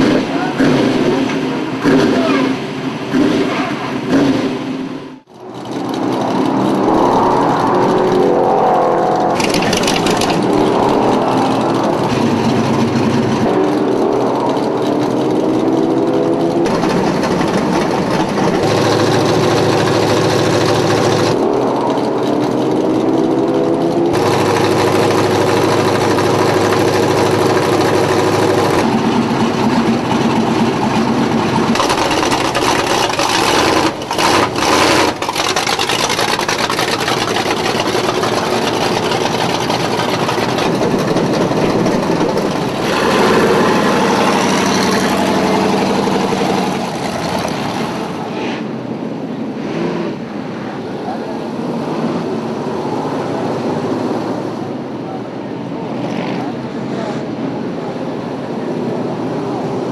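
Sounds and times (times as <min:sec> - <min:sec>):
race car engines idling and revving: 0:00.0 - 0:59.9.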